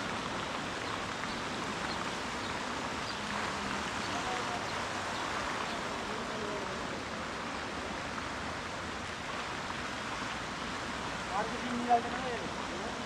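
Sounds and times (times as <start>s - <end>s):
fountain water jets splashing: 0.0s - 13.0s.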